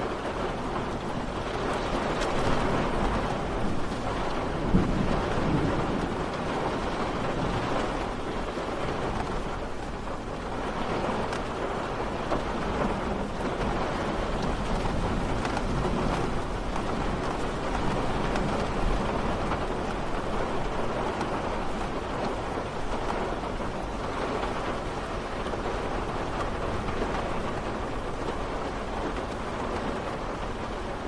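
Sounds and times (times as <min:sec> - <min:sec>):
raindrop ticks: 0:00.0 - 0:31.0
steady rain hiss: 0:00.0 - 0:31.0.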